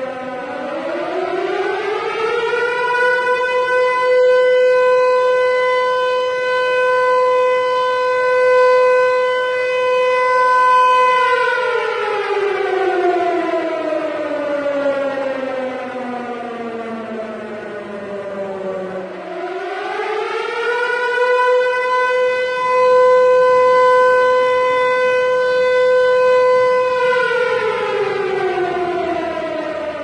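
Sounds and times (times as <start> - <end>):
civil defense siren wailing: 0.0 - 30.0.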